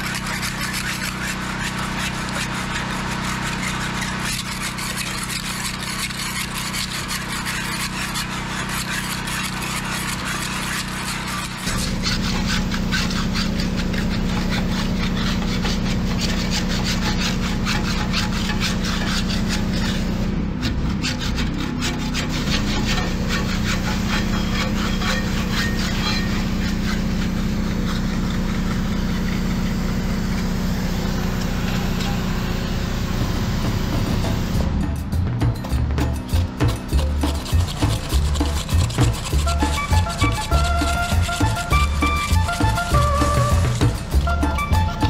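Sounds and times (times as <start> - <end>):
scraping barnacles off propeller: 0.0 - 34.5, 36.2 - 45.0.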